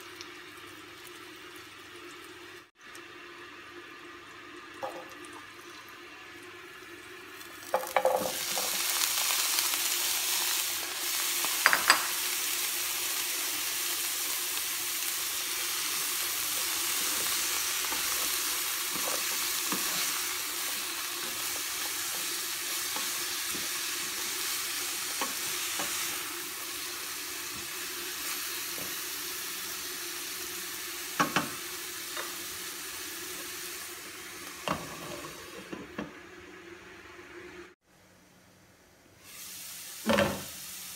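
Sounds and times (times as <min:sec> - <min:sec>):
vegetables sizzling in a frying pan: 0:00.0 - 0:37.7, 0:39.2 - 0:40.9.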